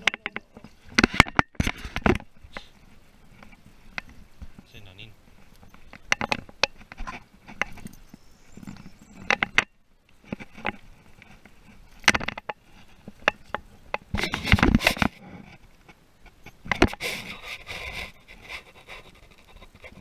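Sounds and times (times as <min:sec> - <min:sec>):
clicks taps and rustling: 0:00.0 - 0:02.7, 0:05.4 - 0:20.0.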